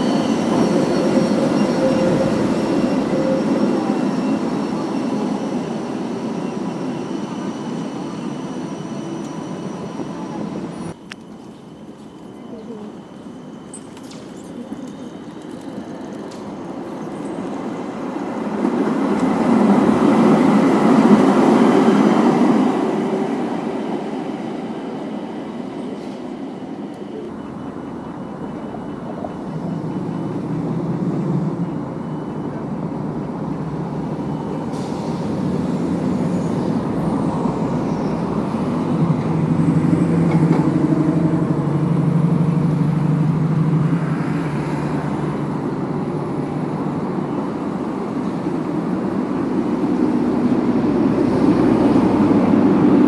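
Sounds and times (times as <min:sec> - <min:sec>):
street traffic noise: 0:00.0 - 0:53.0
tram passing: 0:00.0 - 0:53.0.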